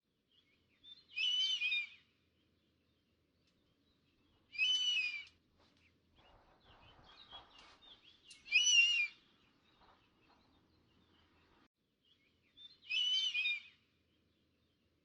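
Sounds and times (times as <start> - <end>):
faint chirping calls: 0.4 - 14.8.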